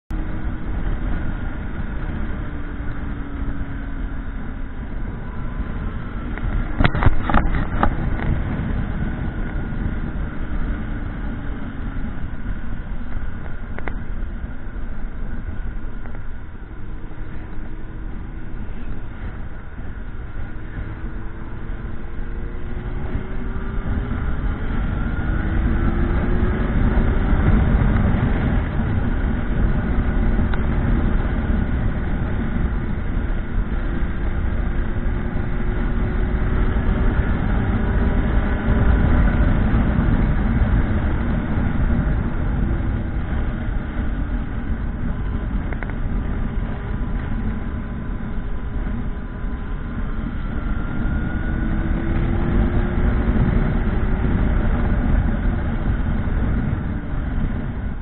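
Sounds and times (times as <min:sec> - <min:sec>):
motorcycle engine running: 0:00.1 - 0:58.0
wind and road noise: 0:00.1 - 0:58.0.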